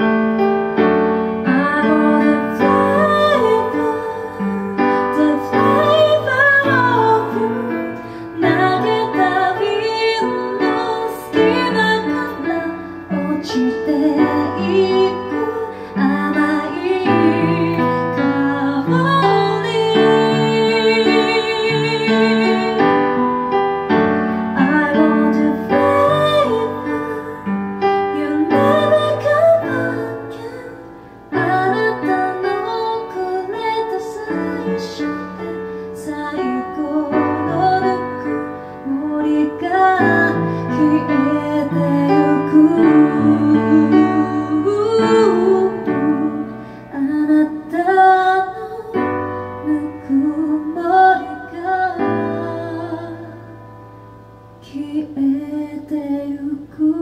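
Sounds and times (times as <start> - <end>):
piano: 0.0 - 57.0
woman singing: 1.4 - 53.6, 54.6 - 57.0.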